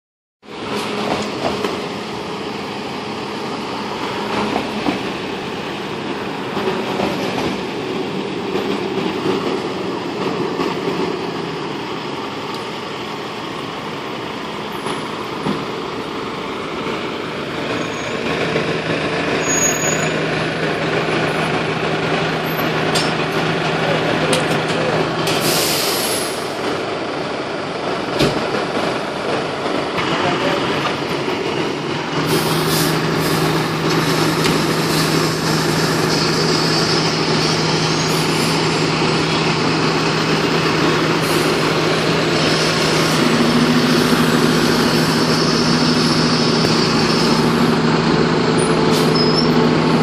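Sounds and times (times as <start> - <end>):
fire engine diesel engine: 0.4 - 50.0
street traffic: 0.4 - 50.0.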